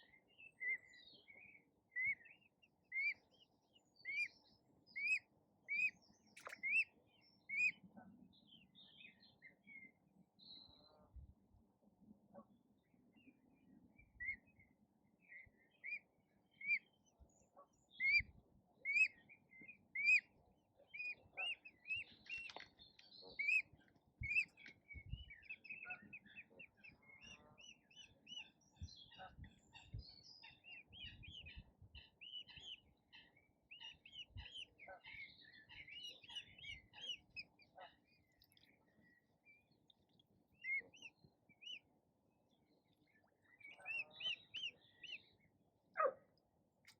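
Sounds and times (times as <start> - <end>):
small birds chirping: 0.0 - 10.9, 13.2 - 46.9.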